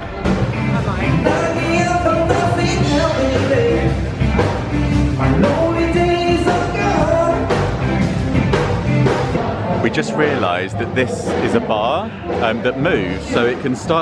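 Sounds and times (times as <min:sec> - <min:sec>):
rock and roll band playing: 0:00.0 - 0:14.0.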